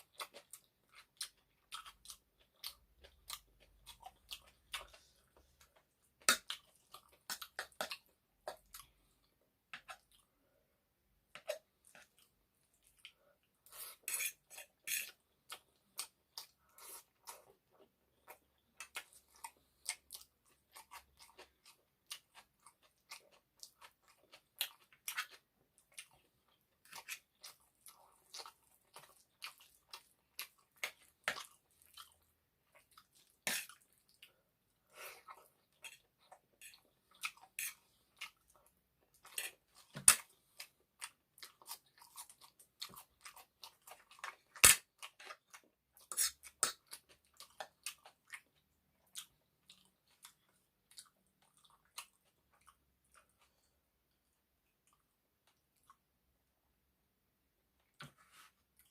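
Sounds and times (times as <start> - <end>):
person chewing with wet smacks: 0.0 - 10.6, 11.2 - 56.2, 57.8 - 58.9.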